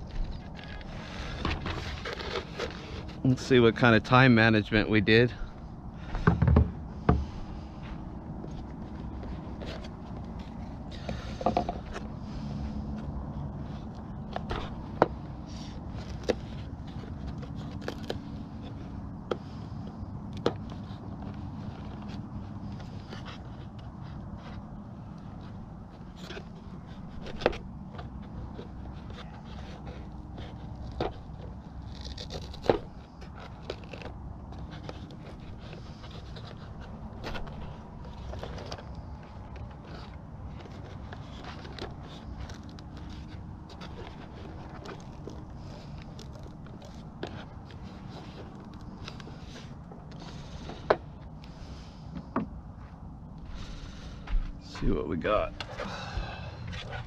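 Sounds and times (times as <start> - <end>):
hands handling foam airplane: 0.0 - 4.4, 5.5 - 57.0.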